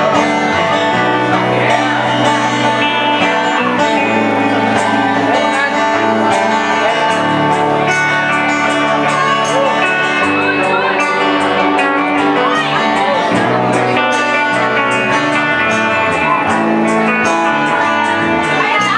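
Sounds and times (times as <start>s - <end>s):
acoustic guitars strummed and picked: 0.0s - 18.9s.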